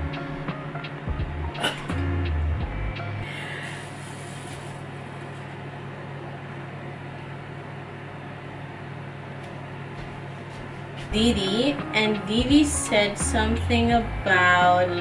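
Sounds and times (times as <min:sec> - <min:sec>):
oven humming and hissing: 0:00.0 - 0:15.0.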